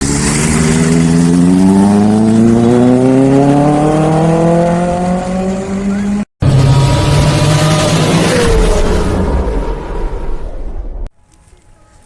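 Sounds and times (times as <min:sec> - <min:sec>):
motorcycle engine accelerating: 0:00.0 - 0:10.5.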